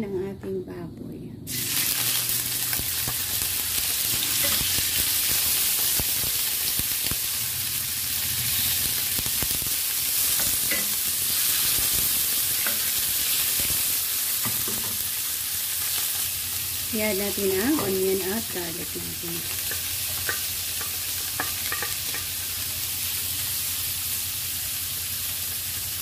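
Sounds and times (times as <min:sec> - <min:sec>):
meat sizzling in oil: 0:01.5 - 0:26.0.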